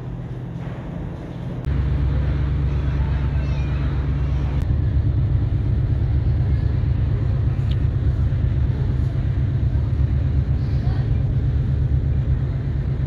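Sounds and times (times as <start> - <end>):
ship machinery rumbling: 0.0 - 13.0.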